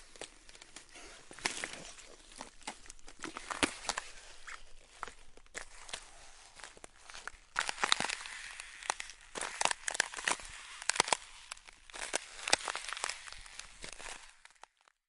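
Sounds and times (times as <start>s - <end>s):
footsteps crunching on ice: 0.0s - 14.9s.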